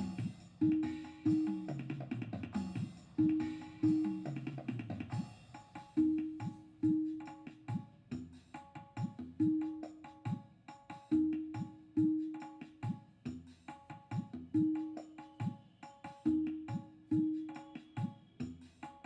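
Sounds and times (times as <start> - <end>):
music with repeating drum rhythm: 0.0 - 19.0.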